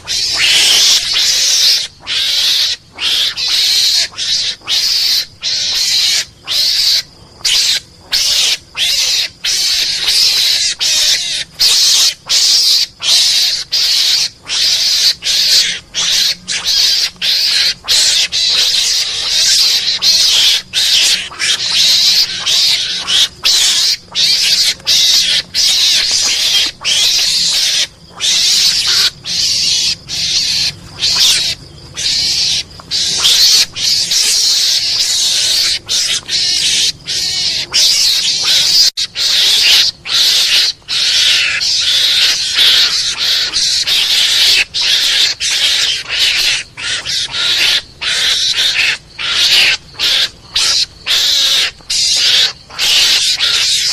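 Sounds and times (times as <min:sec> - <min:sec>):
mongoose chattering calls: 0:00.0 - 0:53.9.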